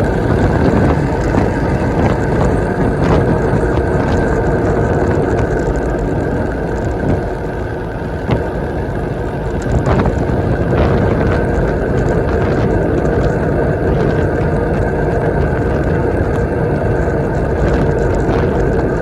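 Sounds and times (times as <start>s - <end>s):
tyre road noise: 0.0s - 19.0s
wind rushing over microphone: 0.0s - 19.0s.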